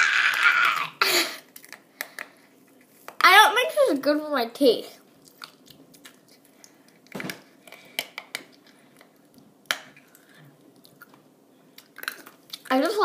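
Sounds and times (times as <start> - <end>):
hard candy crunching: 0.0 - 3.0, 5.2 - 13.0.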